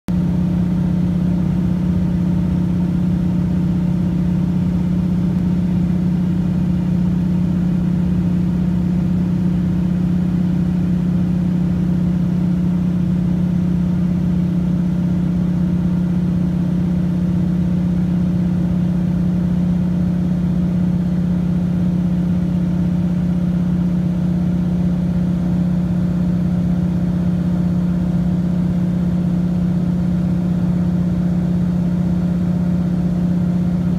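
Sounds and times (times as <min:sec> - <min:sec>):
propeller engine drone: 0:00.1 - 0:33.9.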